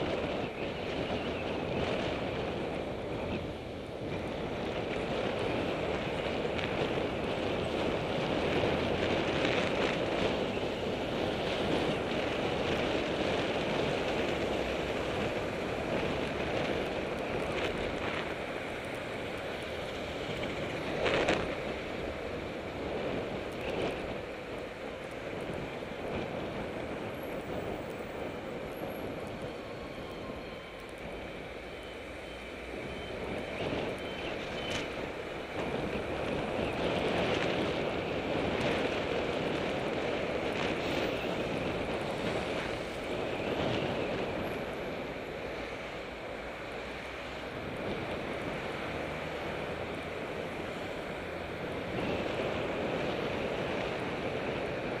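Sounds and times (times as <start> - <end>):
passing city traffic: 0.0 - 55.0
wind rushing on microphone: 0.0 - 55.0.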